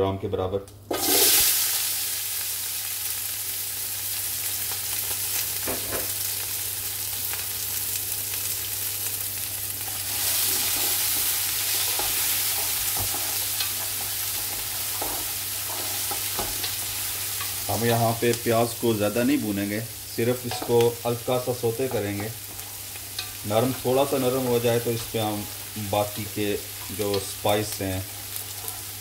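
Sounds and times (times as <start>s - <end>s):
onions sizzling in hot oil: 0.9s - 29.0s.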